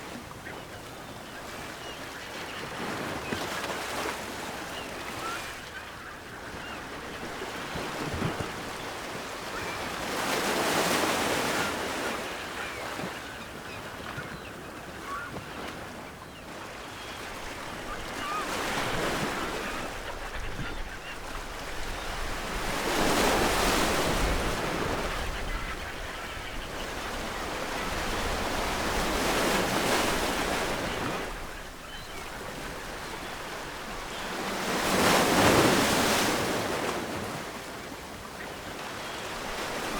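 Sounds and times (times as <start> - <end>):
distant seagull calls: 0.1 - 39.9.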